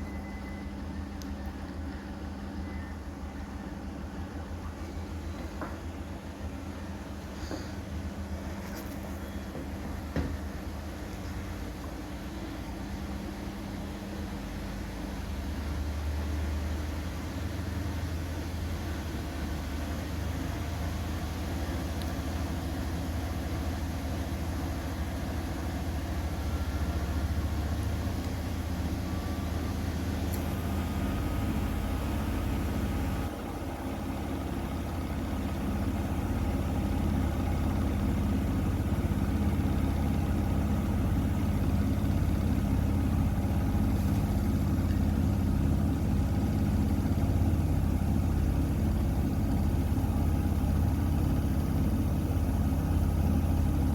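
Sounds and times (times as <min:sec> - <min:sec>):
washing machine running: 0:09.4 - 0:53.9.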